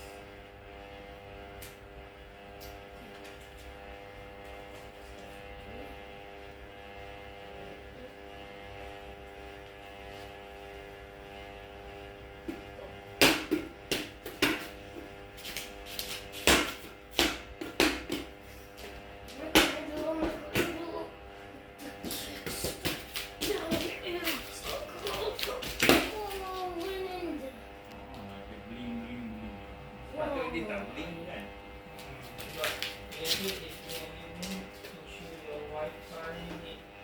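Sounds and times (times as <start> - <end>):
ceiling fan motor humming: 0.0 - 37.0.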